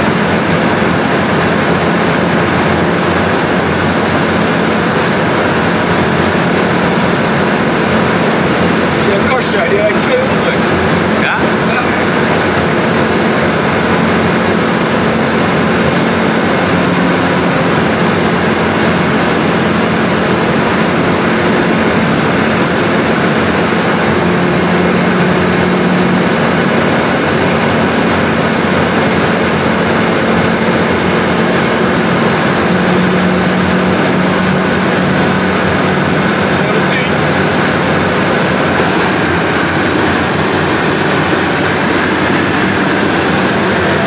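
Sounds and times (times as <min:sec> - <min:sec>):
car engine drone: 0:00.0 - 0:44.0.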